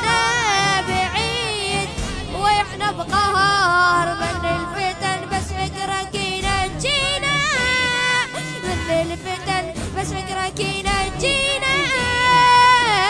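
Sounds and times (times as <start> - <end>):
backing music: 0.0 - 13.0
young person singing: 0.0 - 13.0.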